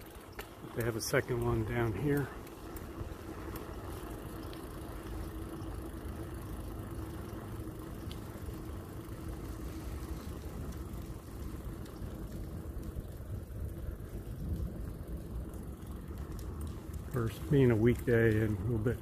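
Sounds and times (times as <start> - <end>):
vehicle driving slowly: 0.0 - 19.0.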